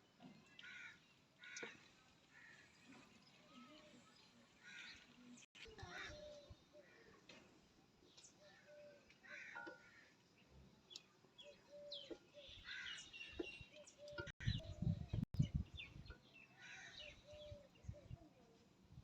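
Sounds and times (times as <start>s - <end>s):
small birds chirping: 0.1s - 18.6s.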